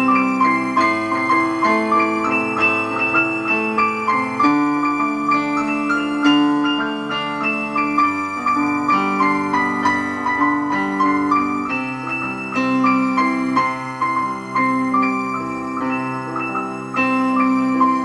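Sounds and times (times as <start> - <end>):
electronic keyboard piano improvisation: 0.0 - 18.0.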